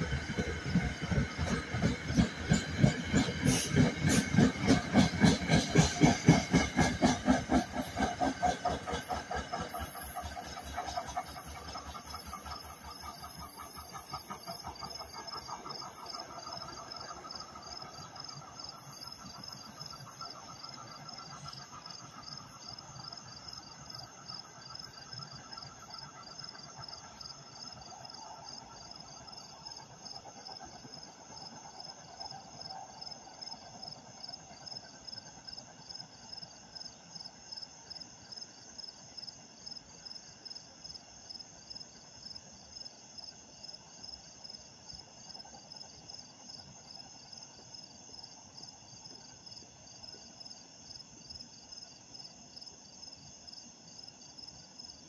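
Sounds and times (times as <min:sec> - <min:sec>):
train pulling away: 0:00.0 - 0:50.4
insects chirping: 0:00.0 - 0:55.0.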